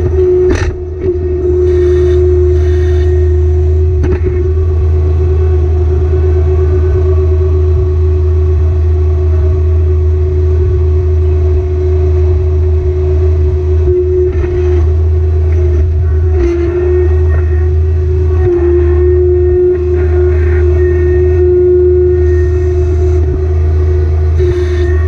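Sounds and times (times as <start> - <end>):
diesel tractor engine running: 0.0 - 25.0.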